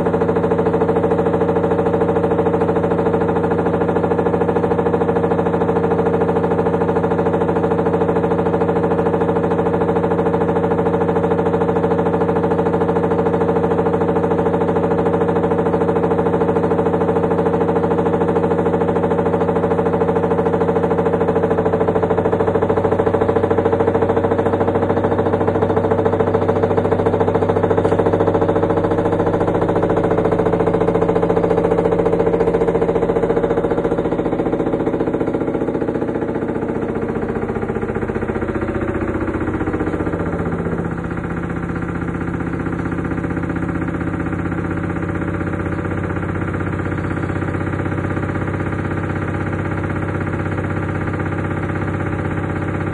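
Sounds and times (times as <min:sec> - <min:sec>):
washer spin cycle hum: 0:00.0 - 0:52.9.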